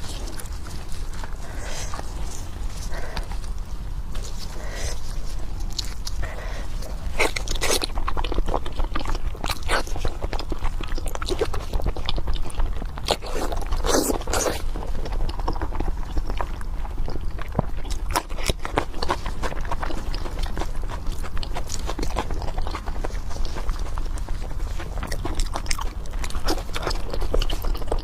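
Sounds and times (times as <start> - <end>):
person crunching and chewing: 0.0 - 28.0
steady low hum: 0.0 - 28.0.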